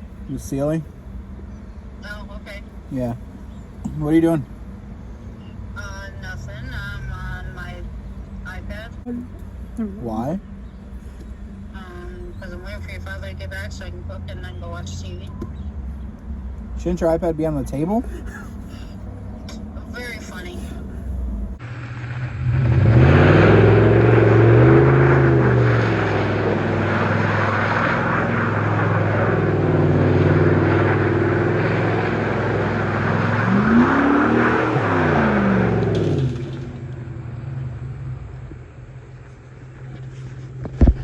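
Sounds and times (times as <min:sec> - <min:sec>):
car exhaust idling and revving: 0:00.0 - 0:41.0.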